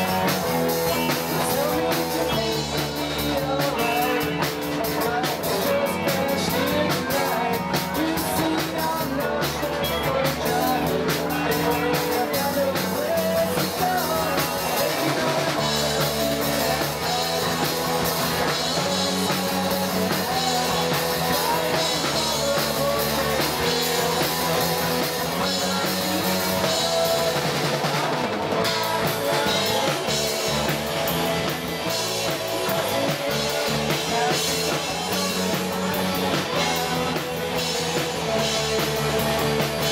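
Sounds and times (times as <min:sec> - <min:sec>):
bass guitar: 0:00.0 - 0:39.9
drum kit: 0:00.0 - 0:39.9
electric guitars: 0:00.0 - 0:39.9
person singing: 0:00.0 - 0:39.9.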